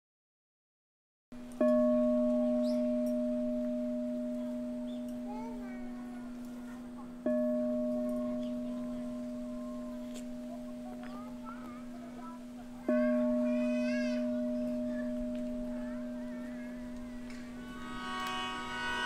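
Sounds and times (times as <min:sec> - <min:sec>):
crystal singing bowl ringing: 0:01.6 - 0:19.0.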